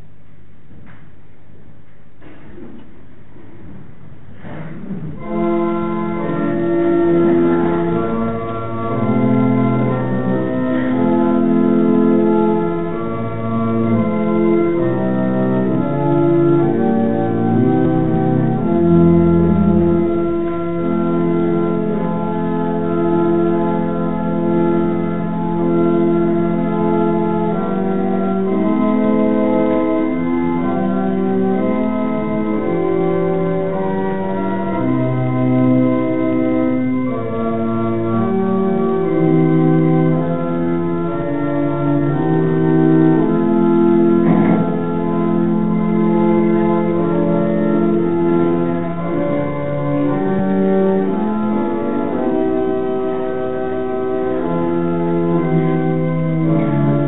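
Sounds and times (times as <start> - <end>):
organ playing slow chords: 2.4 - 57.0.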